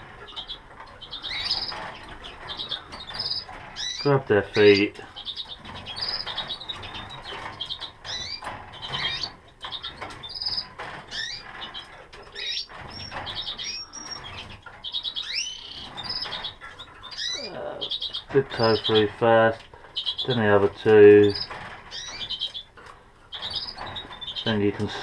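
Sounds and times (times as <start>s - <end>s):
canaries chirping: 0.0s - 25.0s.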